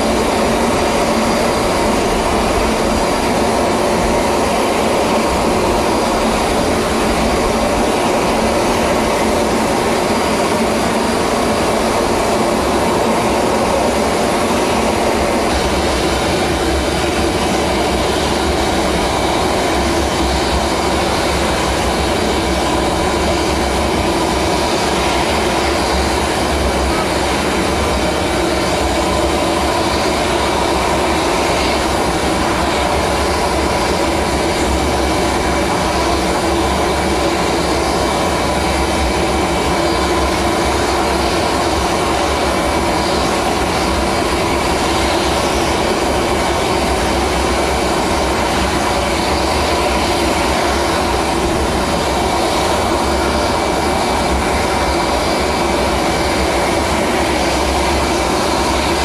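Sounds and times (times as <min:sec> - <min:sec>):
steady engine noise: 0:00.0 - 0:59.0.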